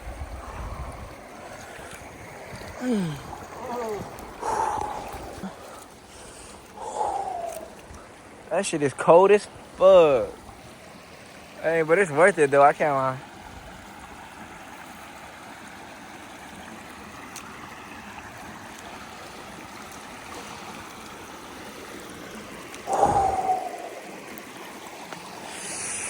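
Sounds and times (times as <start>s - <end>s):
river water flowing over rocks: 0.0s - 26.0s.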